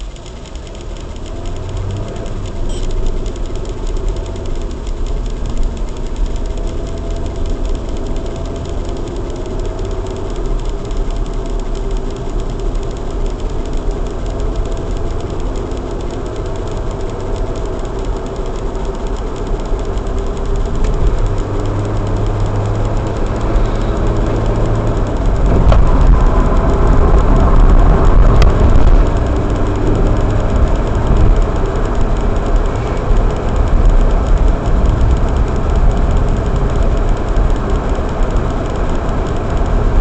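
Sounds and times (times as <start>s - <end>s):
car engine and road rumble: 0.0s - 40.0s
short clicks: 0.0s - 40.0s.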